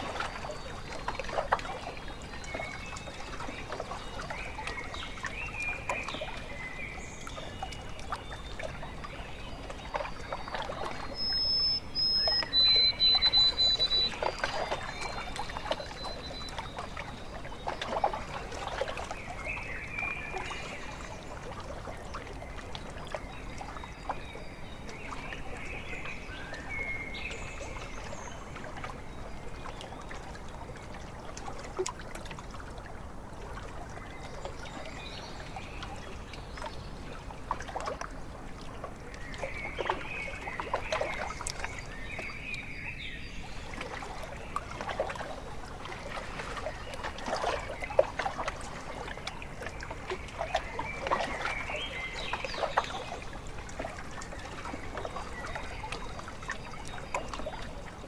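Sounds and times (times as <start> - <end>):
small waves lapping at shore: 0.0 - 58.0.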